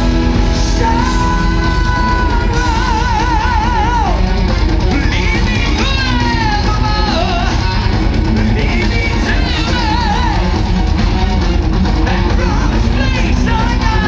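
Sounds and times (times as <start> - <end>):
metal band playing live: 0.0 - 14.0
male singer with vibrato: 0.4 - 11.0, 12.0 - 14.0.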